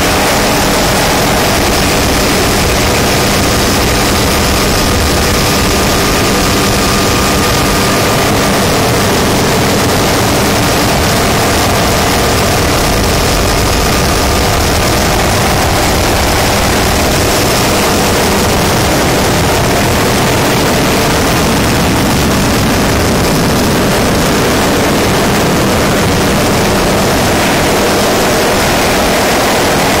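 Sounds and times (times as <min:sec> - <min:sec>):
helicopter engine and rotor drone: 0:00.0 - 0:30.0.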